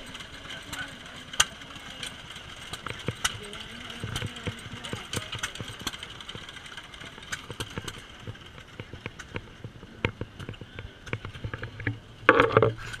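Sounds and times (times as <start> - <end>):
old gas engines popping: 0.0 - 13.0.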